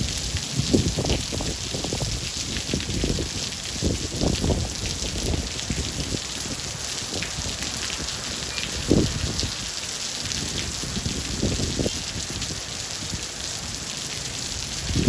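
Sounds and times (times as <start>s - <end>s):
heavy raindrops thudding: 0.0s - 15.0s
steady rain falling: 0.0s - 15.0s.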